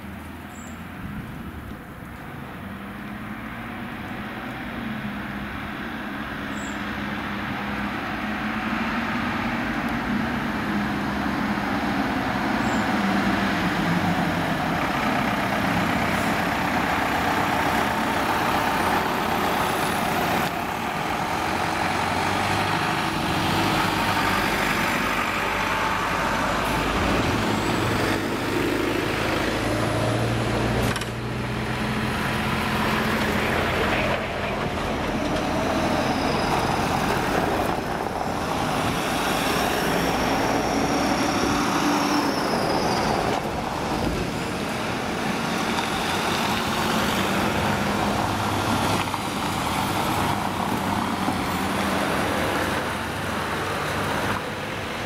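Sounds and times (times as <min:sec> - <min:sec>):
emergency vehicles driving past: 0:00.0 - 0:55.0
engine and tyre noise: 0:00.0 - 0:55.0.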